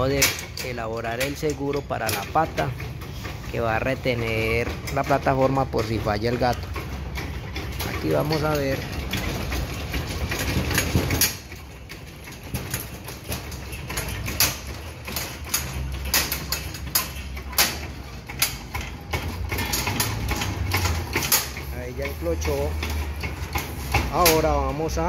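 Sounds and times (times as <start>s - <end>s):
metal clicks and knocks: 0.0s - 25.0s.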